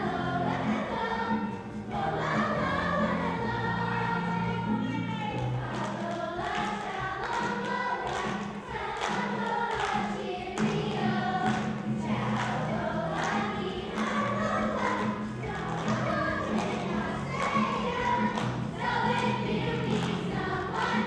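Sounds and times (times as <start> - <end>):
children singing in chorus: 0.0 - 21.0
instrumental accompaniment: 0.0 - 21.0.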